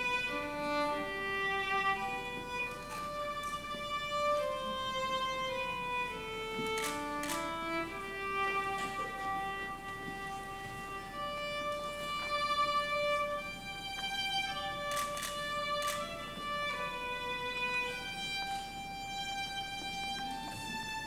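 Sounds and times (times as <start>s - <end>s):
solo violin melody: 0.0s - 21.0s.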